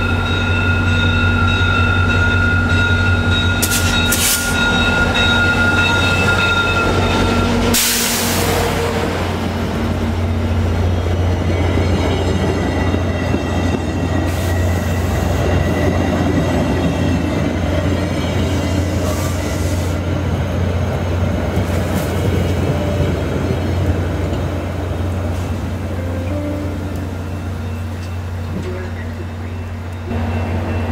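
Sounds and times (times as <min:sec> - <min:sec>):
train wheels rumbling: 0:00.0 - 0:30.9.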